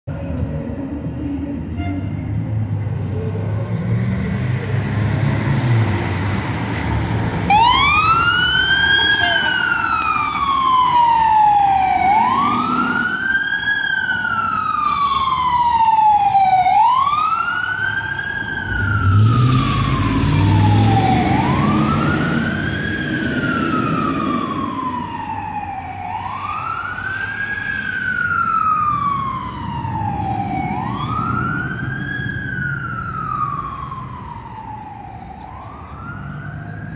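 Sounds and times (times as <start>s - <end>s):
fire engine siren wailing: 0.1s - 36.9s.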